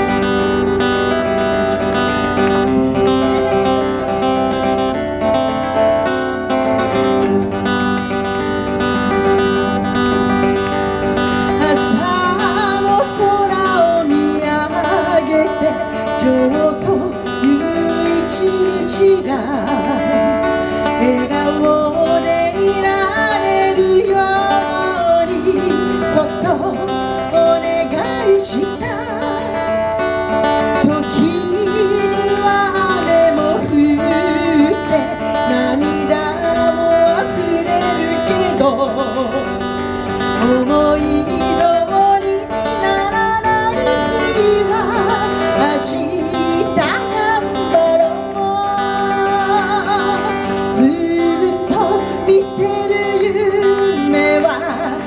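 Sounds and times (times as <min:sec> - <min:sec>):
acoustic guitar: 0:00.0 - 0:55.0
woman singing: 0:10.6 - 0:55.0.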